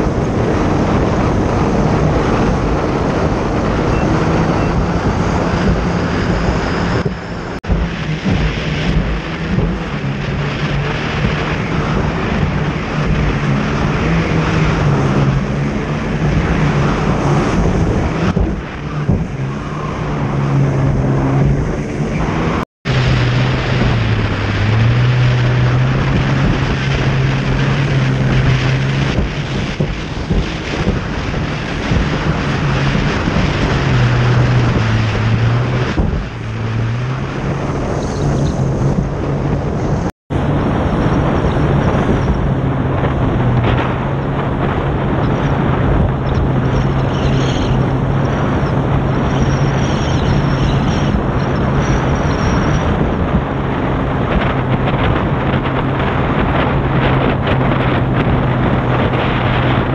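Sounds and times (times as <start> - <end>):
jet ski engine drone: 0.0 - 59.9
water rushing: 0.0 - 59.9
wind noise on microphone: 0.0 - 59.9.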